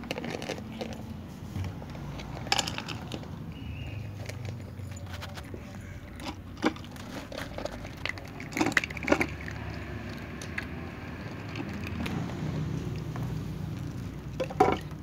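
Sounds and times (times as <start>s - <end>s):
cats crunching dry kibble: 0.0s - 15.0s.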